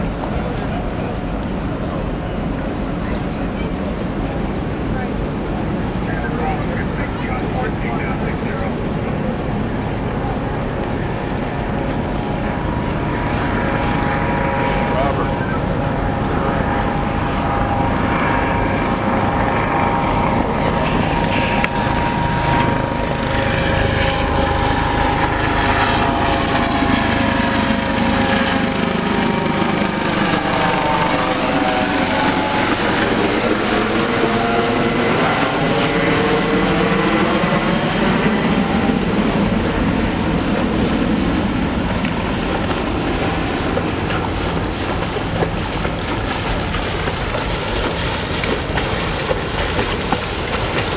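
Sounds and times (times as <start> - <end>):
low-flying aircraft engine drone: 0.0 - 50.9.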